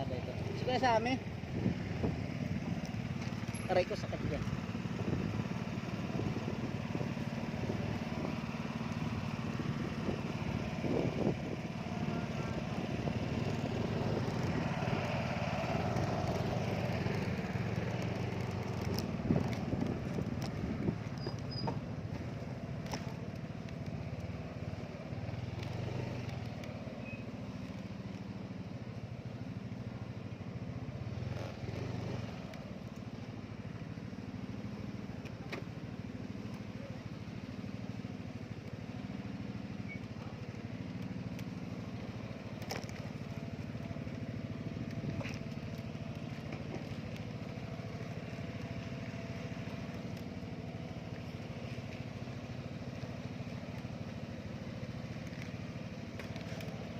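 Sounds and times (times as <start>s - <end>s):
small engine running: 0.0s - 28.6s, 31.0s - 56.9s.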